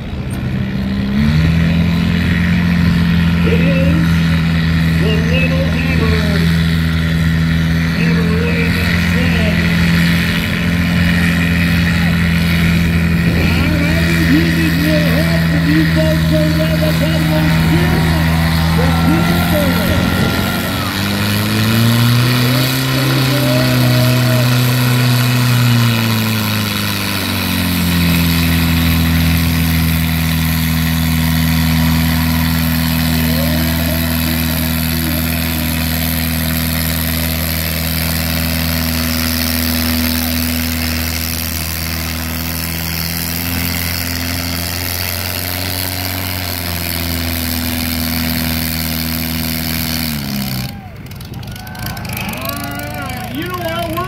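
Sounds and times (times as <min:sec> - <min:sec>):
tractor engine running hard: 0:00.0 - 0:54.0.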